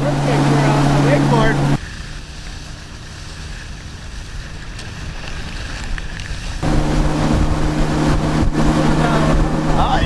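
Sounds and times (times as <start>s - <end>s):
motorboat engine rumbling: 0.0s - 4.8s, 5.4s - 10.0s
water noise: 0.0s - 10.0s
wind: 0.0s - 10.0s.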